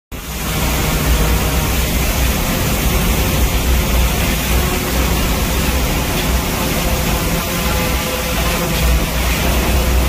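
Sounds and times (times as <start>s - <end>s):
hurricane wind and rain: 0.2s - 10.0s.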